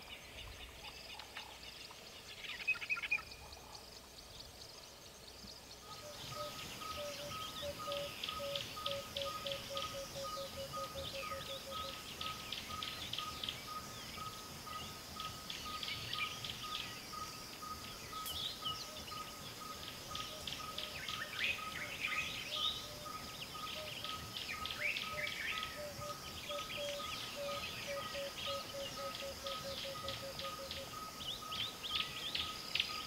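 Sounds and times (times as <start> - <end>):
small birds chirping and trilling: 0.0 - 33.0.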